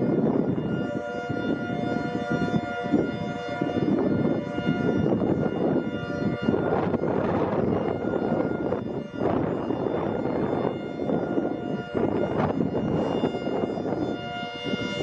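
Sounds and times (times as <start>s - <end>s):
air raid siren: 0.0s - 15.0s.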